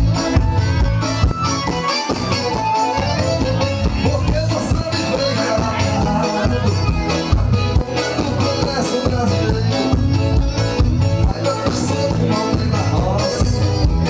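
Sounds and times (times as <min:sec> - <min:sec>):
band music with dance beat: 0:00.0 - 0:14.0.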